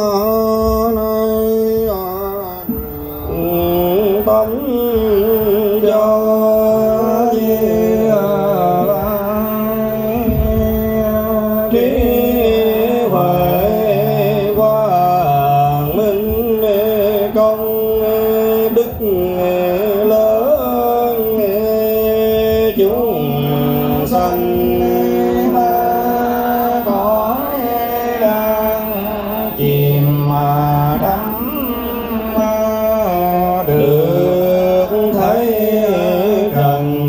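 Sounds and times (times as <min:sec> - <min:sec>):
chanting sung as slow melody: 0:00.0 - 0:37.0.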